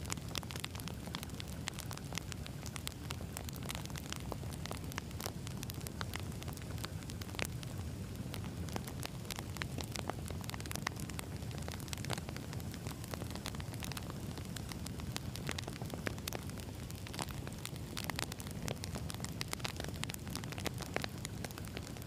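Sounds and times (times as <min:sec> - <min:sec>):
campfire logs crackling and popping: 0:00.0 - 0:22.0
low rumble of flames: 0:00.0 - 0:22.0.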